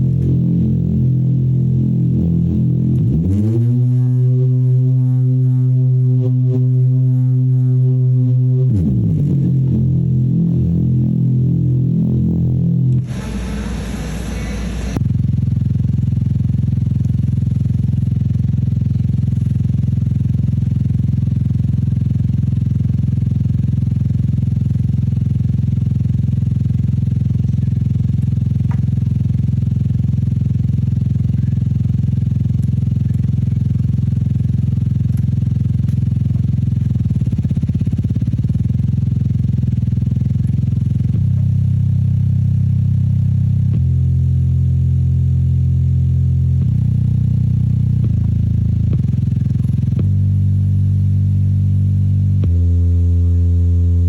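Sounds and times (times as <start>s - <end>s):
low-pitched buzzing tone: 0.0s - 54.0s.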